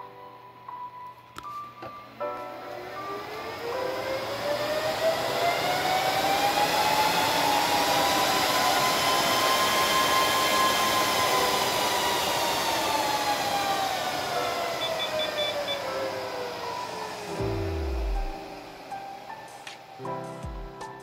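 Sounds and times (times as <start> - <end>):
server cooling fans whirring: 0.0 - 21.0.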